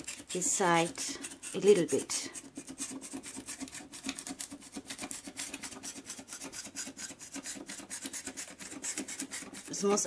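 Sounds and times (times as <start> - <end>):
knife sawing through styrofoam: 0.0 - 10.0.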